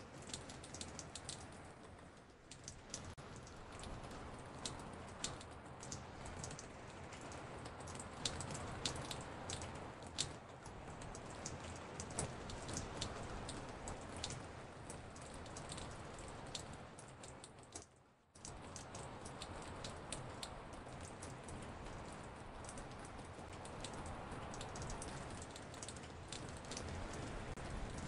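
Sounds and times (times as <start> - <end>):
dripping raindrops: 0.0 - 28.0
steady rain hiss: 0.0 - 28.0.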